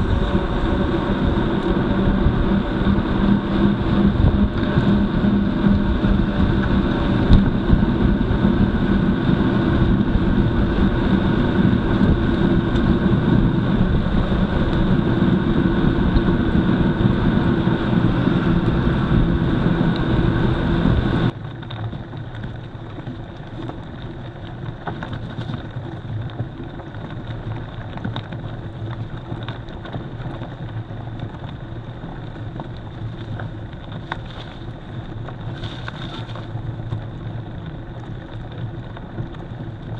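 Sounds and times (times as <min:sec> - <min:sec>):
bike rattling: 0:00.0 - 0:39.9
tyres rumbling on gravel: 0:00.0 - 0:39.9
wind noise: 0:00.0 - 0:39.9.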